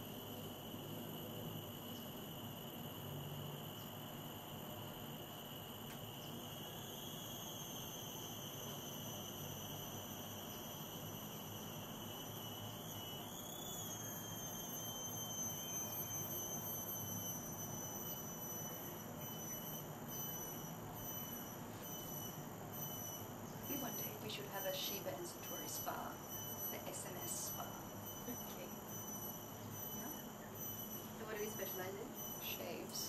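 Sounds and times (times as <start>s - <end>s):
insects high-pitched drone: 0.0s - 33.0s.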